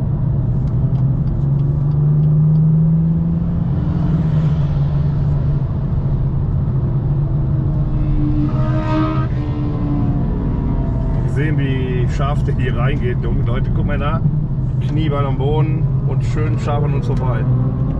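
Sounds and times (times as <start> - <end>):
car engine pulling at speed: 0.0 - 15.0.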